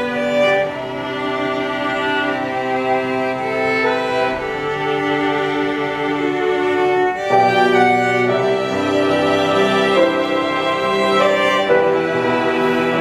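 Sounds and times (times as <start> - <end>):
string quartet playing long chords: 0.0 - 13.0.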